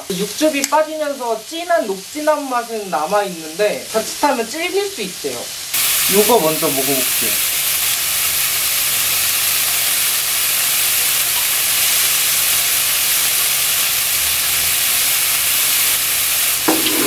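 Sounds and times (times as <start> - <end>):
meat sizzling on grill pan: 0.0 - 17.0.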